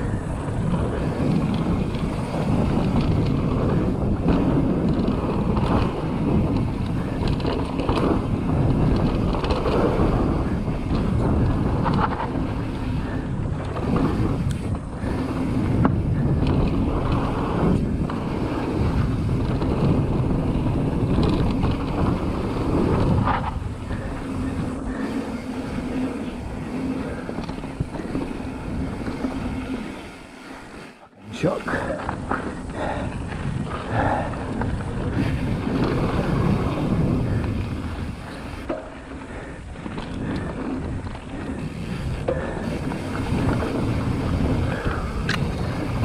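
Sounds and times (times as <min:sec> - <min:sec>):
bike tyres rolling over gravel: 0:00.0 - 0:46.0
wind buffeting microphone: 0:00.0 - 0:46.0.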